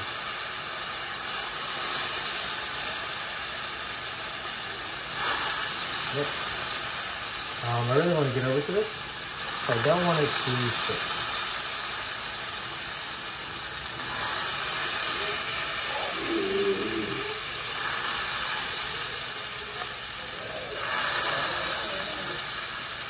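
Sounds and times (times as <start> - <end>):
fat sizzling in a frying pan: 0.0 - 23.0.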